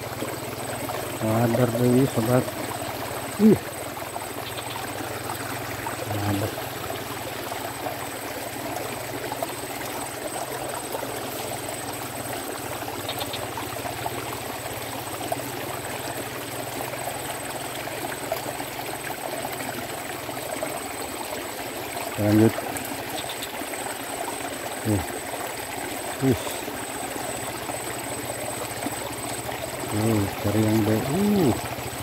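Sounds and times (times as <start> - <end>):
water trickling in ditch: 0.0 - 32.0.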